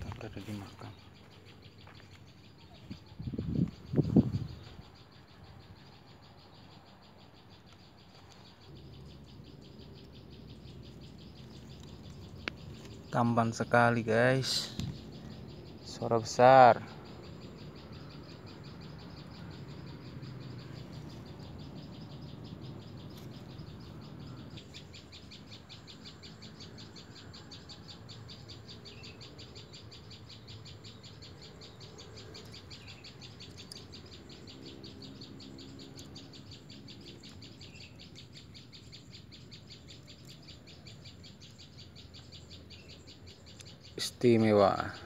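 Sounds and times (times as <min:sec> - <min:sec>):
rapid high-pitched pulsing chirping: 0:00.0 - 0:45.0.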